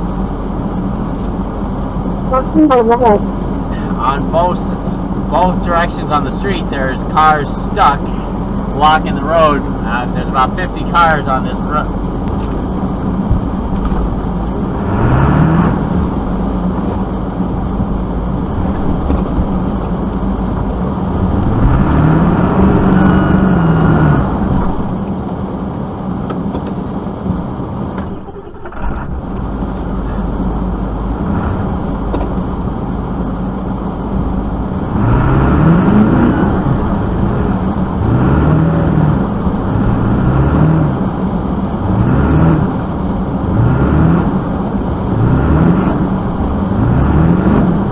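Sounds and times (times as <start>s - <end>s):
vehicle engine revving: 3.0s - 25.3s, 27.3s - 47.9s.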